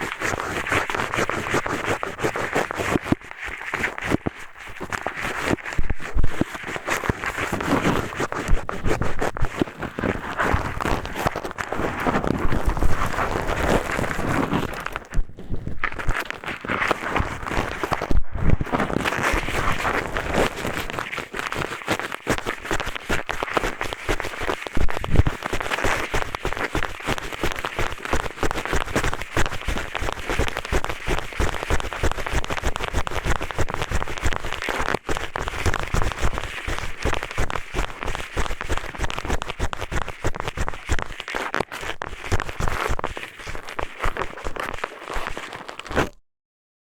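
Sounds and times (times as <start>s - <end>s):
eyeglasses scraping a microphone: 0.0s - 46.2s.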